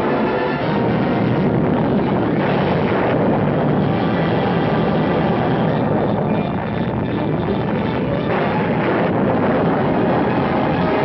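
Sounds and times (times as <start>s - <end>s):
blast wind roar and rumble: 0.0s - 11.0s.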